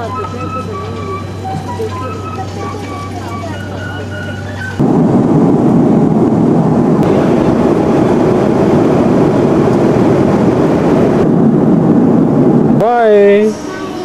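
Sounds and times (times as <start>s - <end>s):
jet engine cabin drone: 0.0s - 14.0s.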